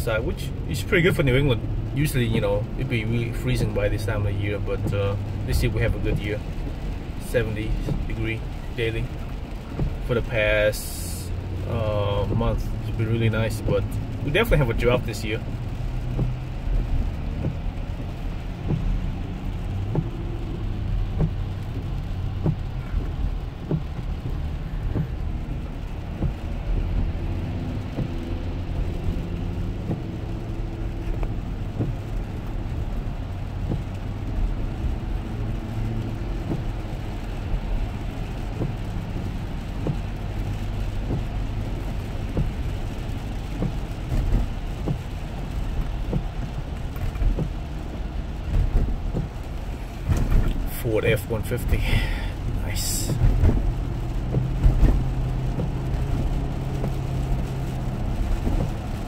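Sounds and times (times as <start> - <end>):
car engine: 0.0 - 59.0
tires rumbling on wet road: 0.0 - 59.0
light ticks: 0.4 - 59.0.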